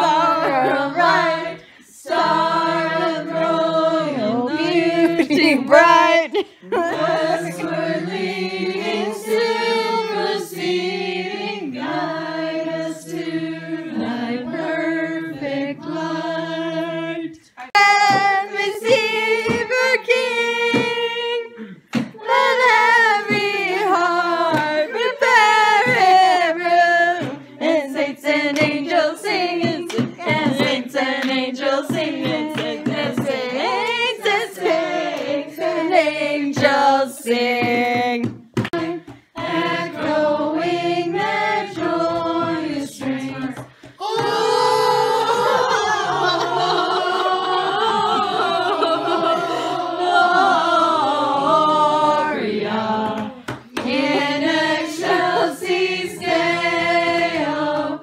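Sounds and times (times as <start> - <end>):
people singing unaccompanied: 0.0 - 58.0.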